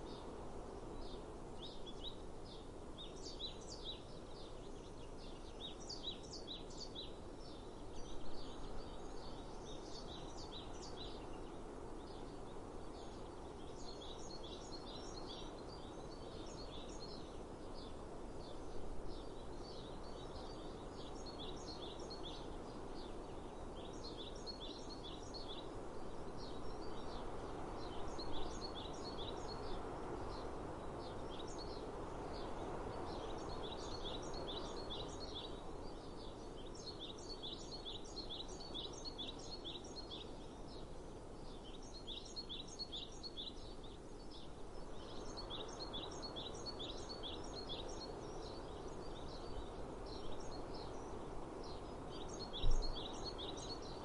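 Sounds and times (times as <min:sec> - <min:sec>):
outdoor background hiss: 0:00.0 - 0:54.0
songbirds chirping: 0:00.0 - 0:54.0.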